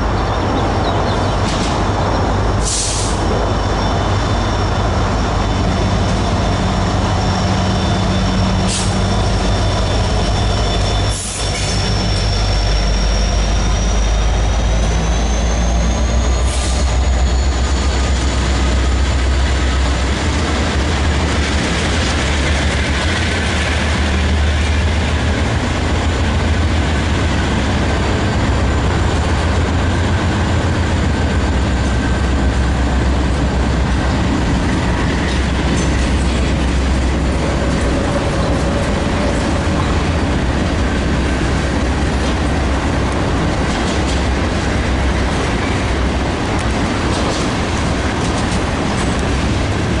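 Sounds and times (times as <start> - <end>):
freight train rumbling past: 0.0 - 50.0
wheels squealing on rail: 0.0 - 50.0.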